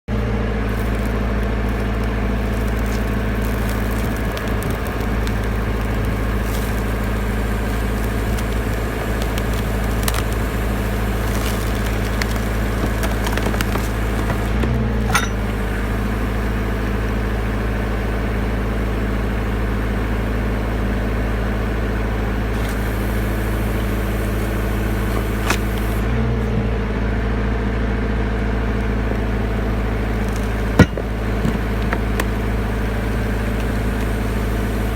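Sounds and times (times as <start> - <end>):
hydraulic power unit engine running: 0.0 - 34.9.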